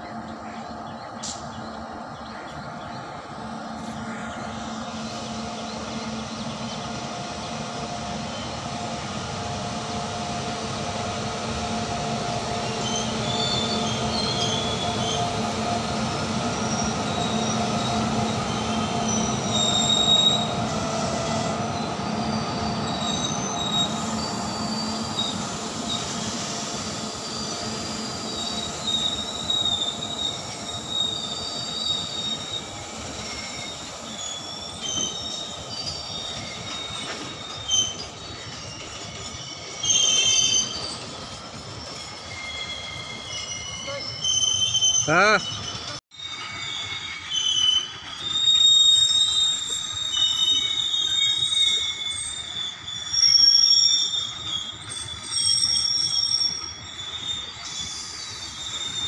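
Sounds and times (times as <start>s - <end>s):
train wheels rumbling on rails: 0.0s - 59.0s
high-pitched wheel squeals: 4.0s - 59.0s.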